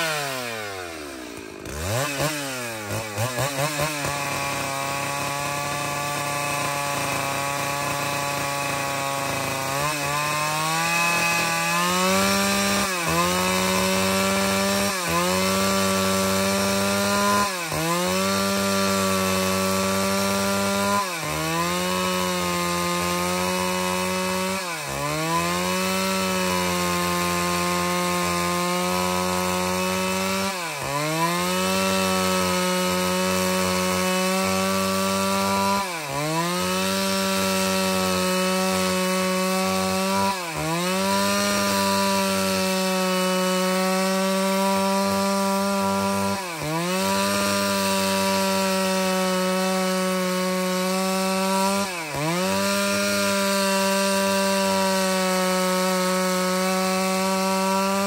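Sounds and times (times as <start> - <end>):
chainsaw sawing log: 0.0 - 58.0.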